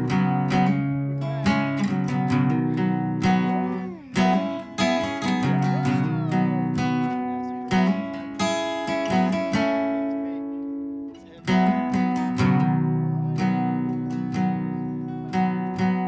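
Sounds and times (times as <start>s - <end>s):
acoustic guitar chords strummed: 0.0s - 16.0s.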